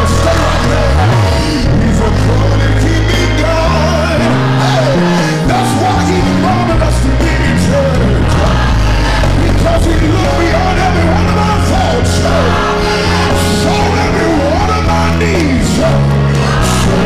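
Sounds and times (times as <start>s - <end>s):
bass line: 0.0s - 17.0s
lead singer and choir singing: 0.0s - 17.0s.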